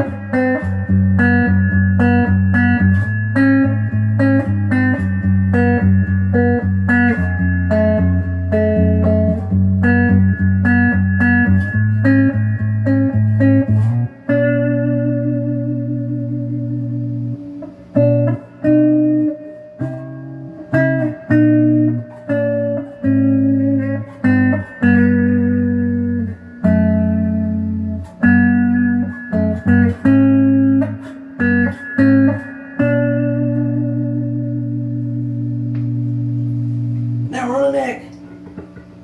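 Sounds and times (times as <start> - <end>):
electric guitar chords ringing: 0.0 - 39.0.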